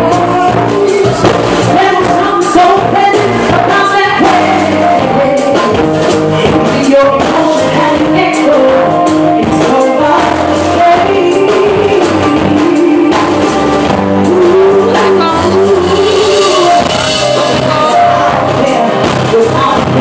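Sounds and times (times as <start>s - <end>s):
drums: 0.0s - 20.0s
keyboard: 0.0s - 20.0s
woman singing into microphone: 0.0s - 20.0s.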